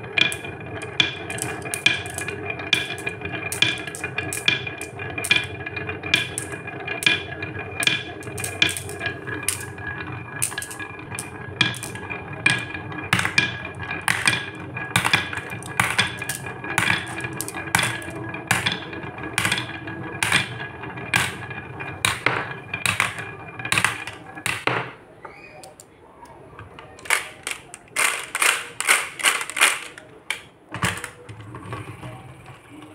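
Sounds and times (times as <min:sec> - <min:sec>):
marbles clacking: 0:00.0 - 0:31.8
marbles rolling on wooden track: 0:00.0 - 0:32.9.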